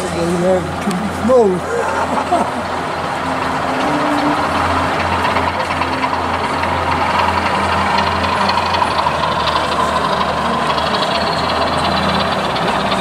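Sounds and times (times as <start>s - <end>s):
model locomotive diesel engine hum: 0.0s - 13.0s.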